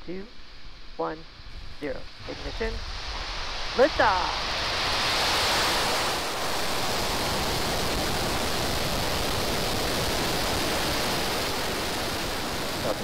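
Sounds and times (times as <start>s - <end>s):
rocket engines roaring: 1.8s - 13.0s.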